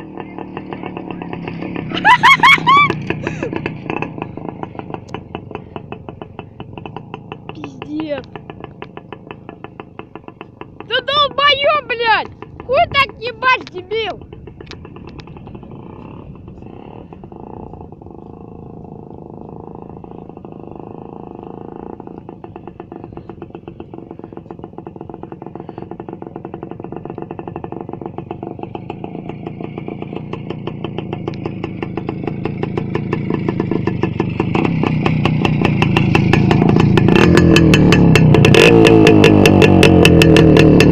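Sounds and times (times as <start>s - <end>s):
motorcycle exhaust crackling: 0.0s - 40.9s.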